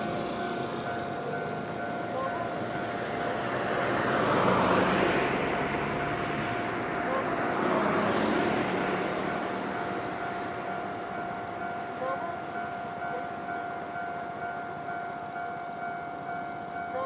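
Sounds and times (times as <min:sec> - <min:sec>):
level-crossing warning bell: 0:00.0 - 0:17.0
passing vehicles: 0:00.0 - 0:17.0.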